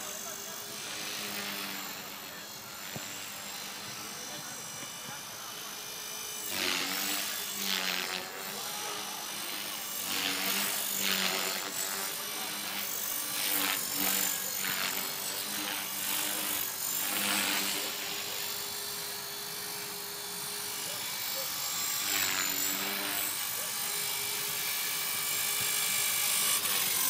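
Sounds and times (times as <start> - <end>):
helicopter motor and rotor whine: 0.0 - 27.0.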